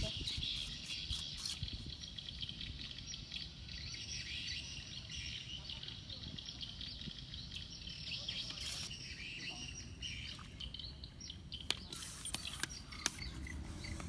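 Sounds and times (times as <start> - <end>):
birds chirping chorus: 0.0 - 14.0.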